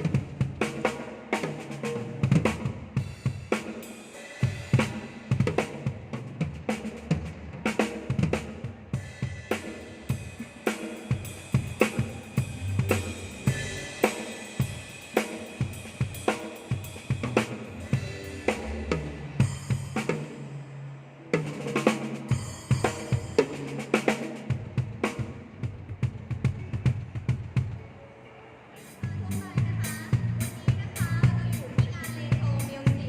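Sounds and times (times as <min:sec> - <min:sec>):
drum kit playing groove: 0:00.0 - 0:28.0, 0:28.9 - 0:33.0.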